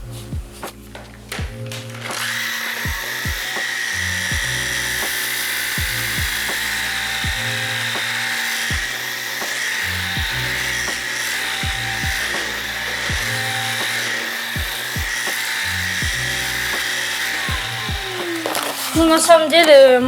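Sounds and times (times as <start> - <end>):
background music with steady beat: 0.0 - 20.0
vacuum cleaner with high whine: 1.4 - 19.8.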